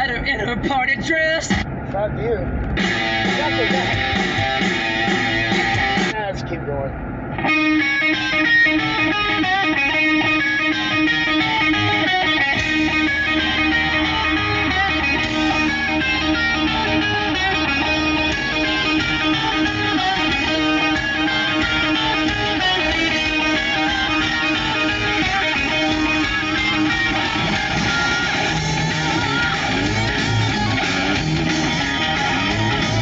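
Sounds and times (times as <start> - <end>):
steady bass note: 2.5 - 6.2, 7.4 - 33.0
strummed electric guitar: 2.5 - 6.2, 7.2 - 33.0.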